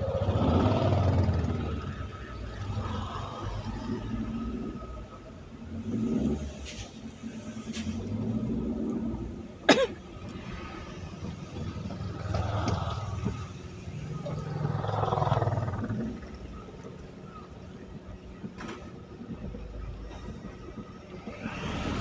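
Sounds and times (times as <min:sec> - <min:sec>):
vehicles passing on wet road: 0:00.0 - 0:22.0.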